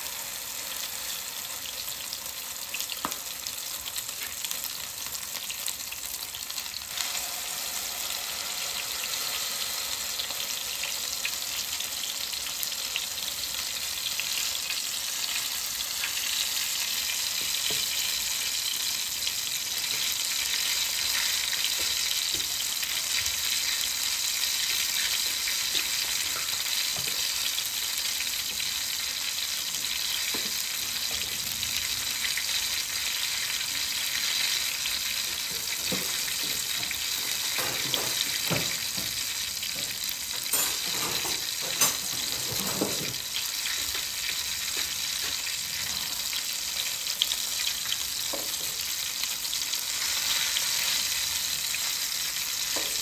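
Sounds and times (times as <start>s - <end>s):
omelette sizzling in oil: 0.0s - 53.0s.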